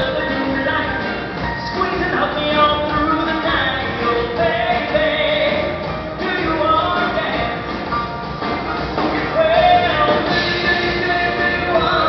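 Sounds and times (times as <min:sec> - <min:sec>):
live band playing rock and roll: 0:00.0 - 0:12.0.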